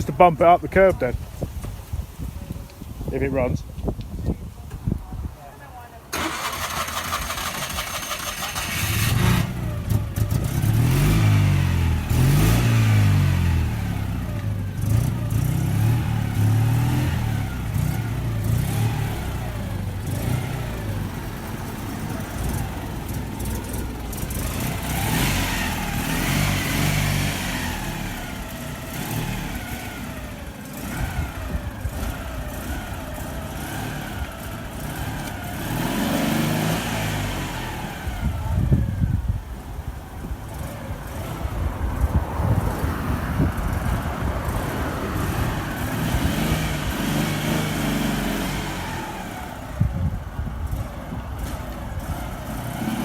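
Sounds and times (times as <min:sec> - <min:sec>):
car engine revving: 0:06.1 - 0:38.8, 0:40.5 - 0:53.0.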